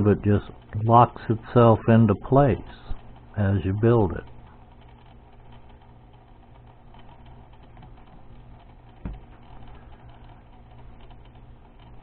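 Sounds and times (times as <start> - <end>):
turntable clicking: 0.0 - 12.0.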